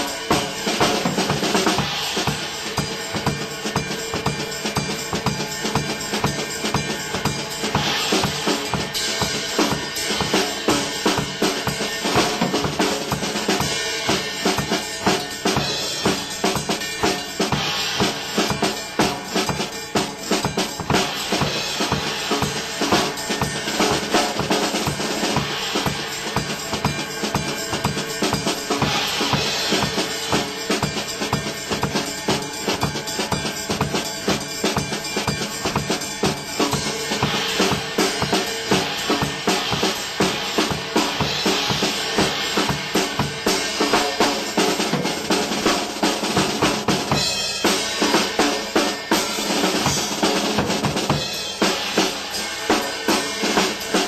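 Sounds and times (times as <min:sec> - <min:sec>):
cymbal wash: 0:00.0 - 0:54.0
drum kit playing fast patterns: 0:00.0 - 0:54.0.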